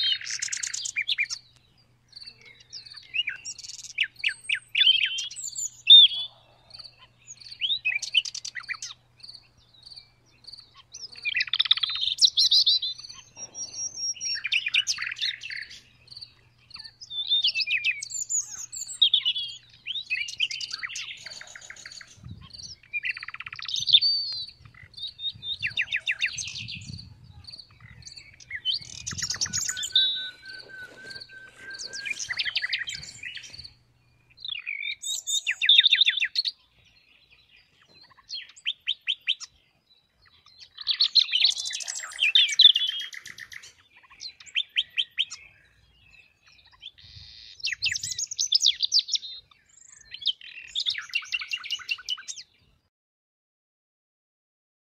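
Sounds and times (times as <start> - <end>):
nightingale singing: 0.0 - 52.7.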